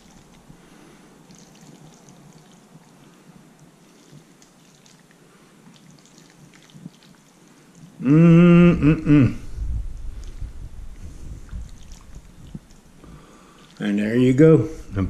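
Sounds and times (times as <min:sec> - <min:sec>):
wet squishing of spaghetti: 0:00.0 - 0:08.0, 0:09.8 - 0:14.3.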